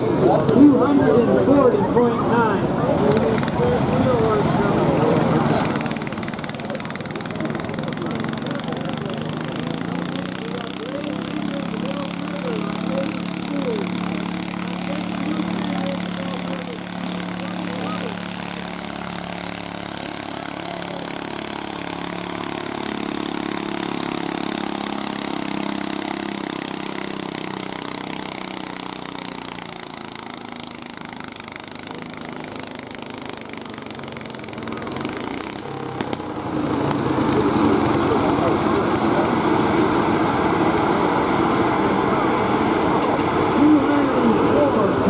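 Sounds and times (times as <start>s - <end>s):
garden tractor engine running: 0.0s - 45.0s
loud noise: 0.0s - 45.0s.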